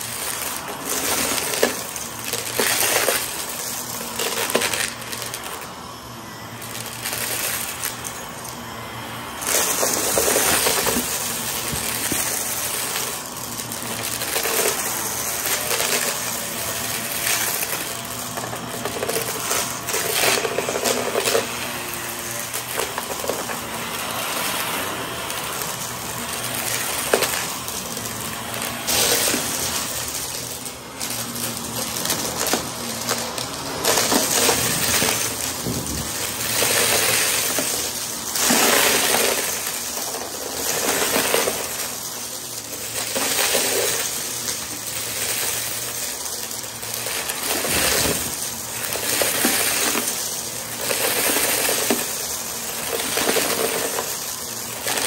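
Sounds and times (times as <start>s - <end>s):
debris crackling and rattling: 0.0s - 5.7s, 9.3s - 55.0s
vacuum cleaner running: 0.0s - 55.0s.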